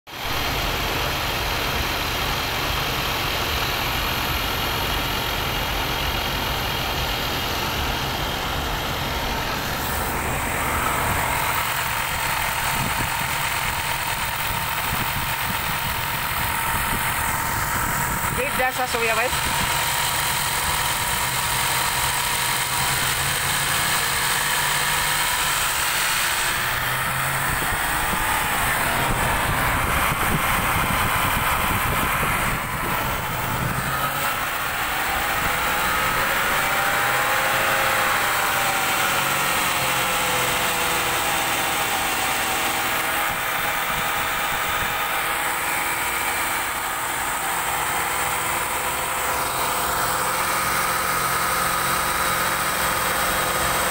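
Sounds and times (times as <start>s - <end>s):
car engine idling: 0.1s - 53.9s
faint engine whine: 0.1s - 53.9s.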